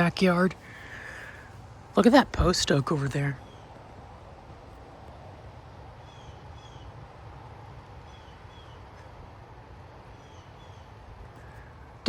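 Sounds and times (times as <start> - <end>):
tree leaves rustling: 0.0 - 12.0.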